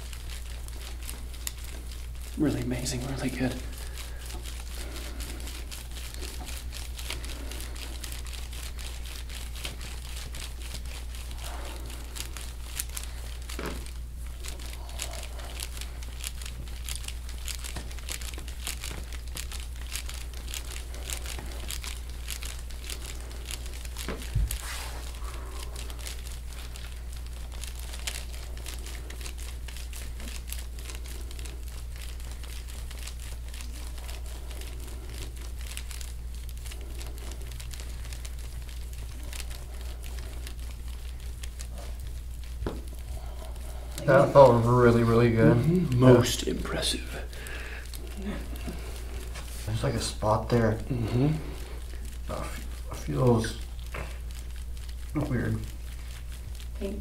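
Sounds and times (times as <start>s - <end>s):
crackling and crunching of back muscle: 0.0s - 57.0s
steady low hum: 0.0s - 57.0s.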